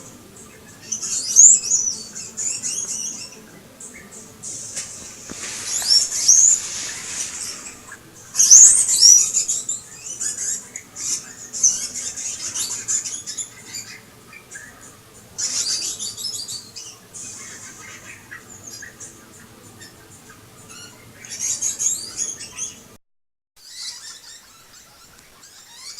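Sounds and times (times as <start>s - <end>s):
small rodents squeaking: 0.0s - 22.8s, 23.6s - 25.9s.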